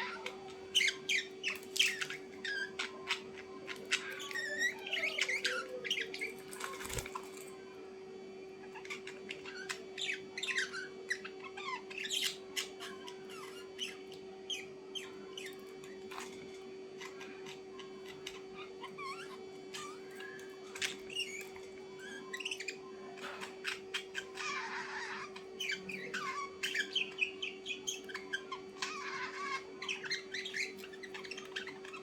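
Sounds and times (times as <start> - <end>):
birds chirping and squawking: 0.0 - 32.0.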